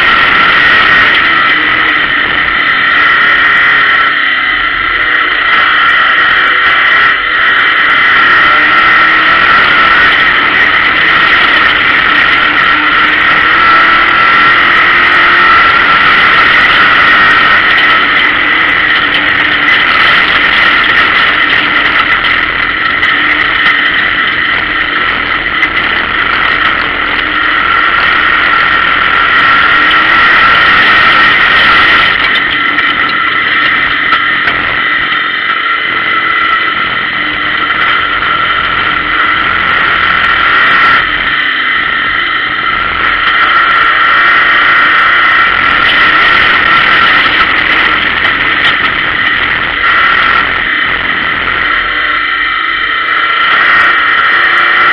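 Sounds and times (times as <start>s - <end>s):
high whine: 0.0s - 54.9s
race car engine running: 0.0s - 54.9s.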